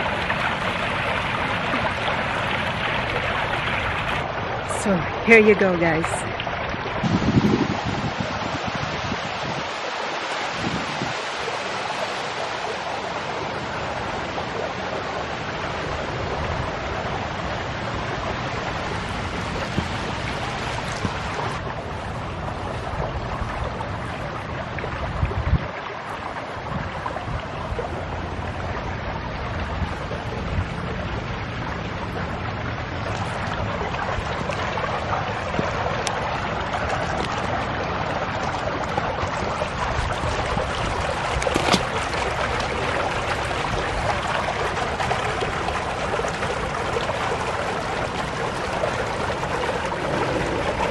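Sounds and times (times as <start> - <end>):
wind on microphone: 0.0 - 50.9.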